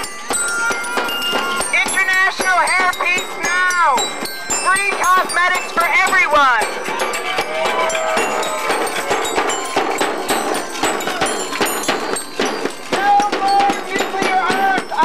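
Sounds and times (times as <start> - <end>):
clanking percussion: 0.0 - 15.0
crowd shouting: 0.0 - 15.0
hand drum struck rapidly: 0.0 - 15.0.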